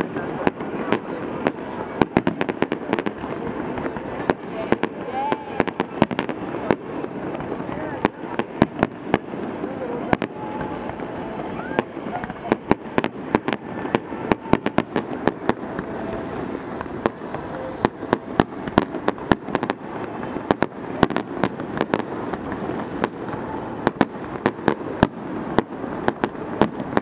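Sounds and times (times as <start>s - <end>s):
fireworks bangs: 0.0s - 27.0s.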